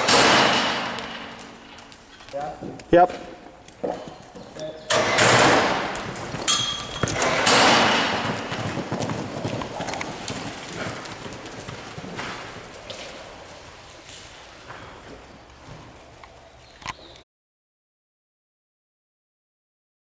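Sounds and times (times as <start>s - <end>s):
horse hooves clip-clopping: 0.0s - 17.2s.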